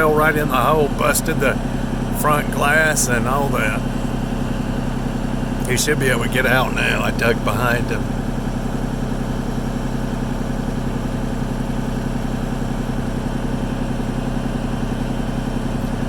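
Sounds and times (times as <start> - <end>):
heavy equipment engine idling: 0.0 - 16.0.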